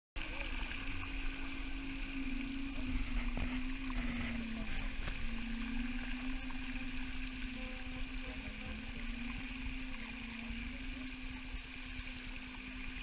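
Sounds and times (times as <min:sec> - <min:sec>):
steady low hum: 0:00.2 - 0:13.0
water rushing in boat wake: 0:00.2 - 0:13.0.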